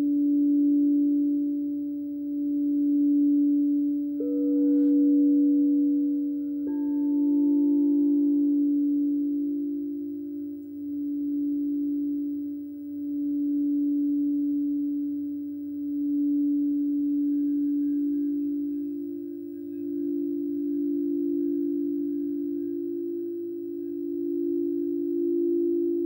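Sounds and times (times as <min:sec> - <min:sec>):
singing bowl low sustained tone: 0:00.0 - 0:26.0
singing bowl strike: 0:04.2 - 0:25.6.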